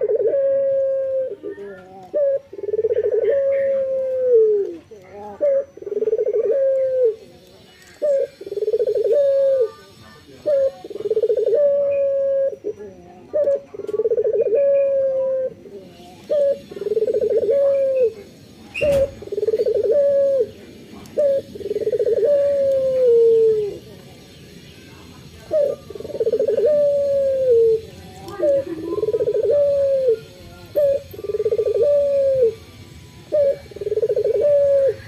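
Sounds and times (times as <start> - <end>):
dove cooing: 0.0 - 23.9, 25.3 - 35.0.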